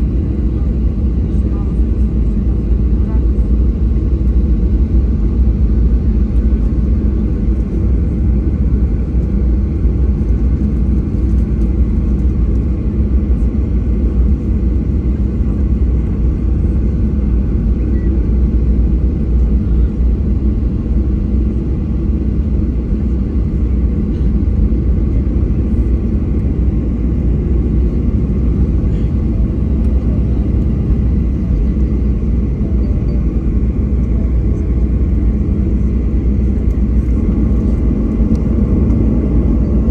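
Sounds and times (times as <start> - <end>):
aircraft engines idling: 0.0 - 39.9.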